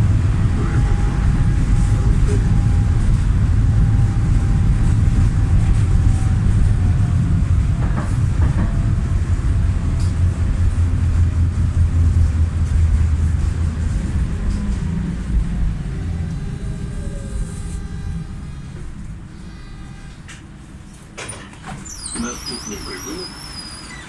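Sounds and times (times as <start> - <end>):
faint tram whine: 0.0 - 24.0
tram rumbling: 0.0 - 24.0.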